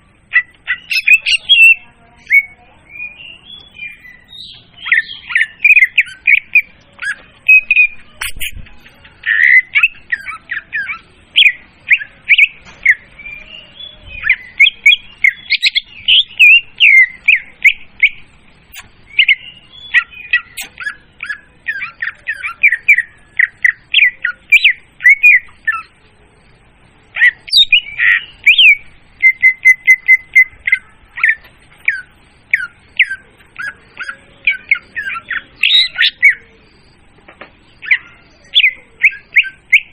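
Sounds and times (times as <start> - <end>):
bird song with varied chirps: 0.0 - 39.9
bird trill: 0.0 - 39.9.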